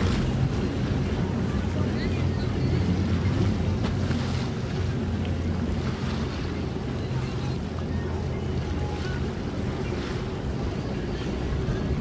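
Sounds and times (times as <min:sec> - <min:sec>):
light water splashes: 0:00.0 - 0:12.0
shallow water lapping: 0:00.0 - 0:12.0
wind rumbling on microphone: 0:00.0 - 0:12.0.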